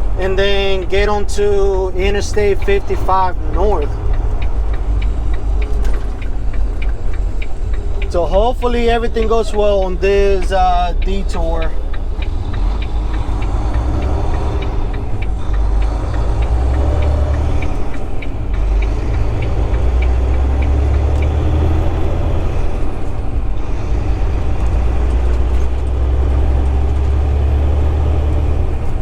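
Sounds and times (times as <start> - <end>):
light regular ticking: 0.0 - 29.0
road noise: 0.0 - 29.0
truck diesel engine droning: 0.0 - 29.0.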